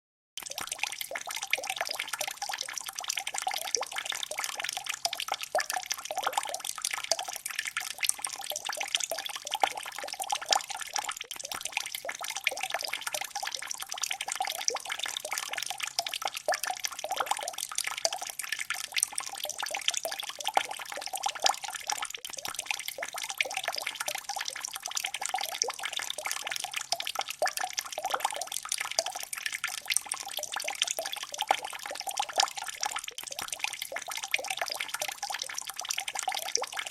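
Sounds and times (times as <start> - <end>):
water drops dripping: 0.4 - 36.9.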